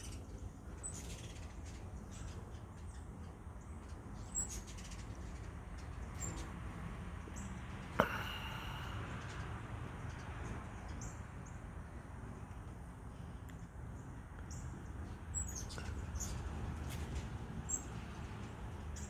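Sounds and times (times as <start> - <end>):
hummingbird chirps: 0.0 - 19.0.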